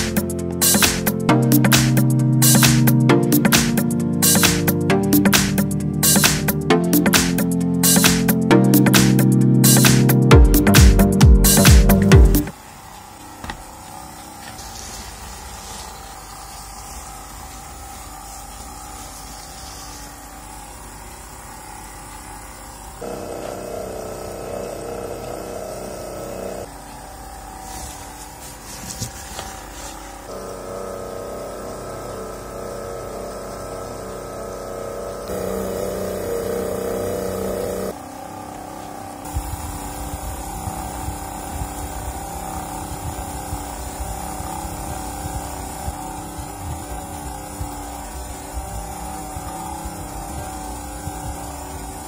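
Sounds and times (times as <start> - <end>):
fan and motor humming: 0.0 - 52.0
pitched buzz: 0.0 - 52.0.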